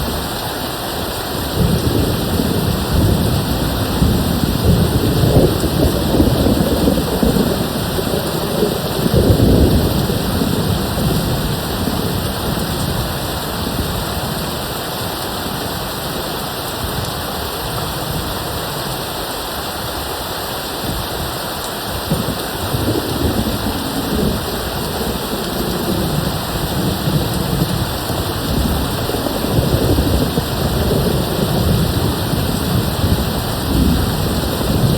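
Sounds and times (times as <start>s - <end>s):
rain pouring down: 0.0s - 34.9s
distant thunder rumbling: 1.4s - 18.7s, 22.0s - 34.9s.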